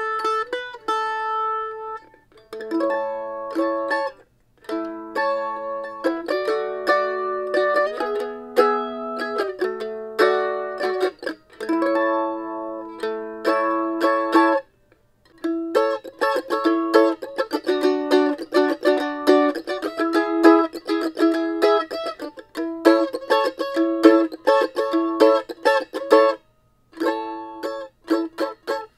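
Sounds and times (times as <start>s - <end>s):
mandolin picking: 0.0s - 28.9s.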